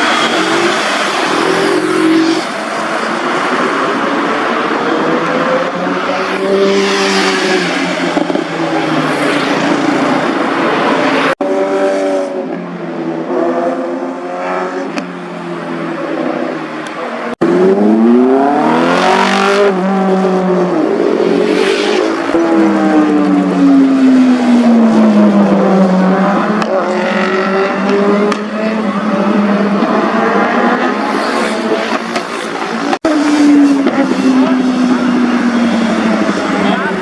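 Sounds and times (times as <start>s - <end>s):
superbike engines passing by: 0.0s - 37.0s.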